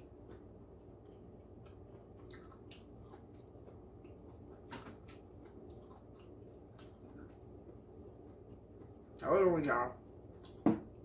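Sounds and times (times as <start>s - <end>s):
wet chewing: 0.0s - 9.2s, 10.3s - 11.0s
low steady hum: 0.0s - 11.0s.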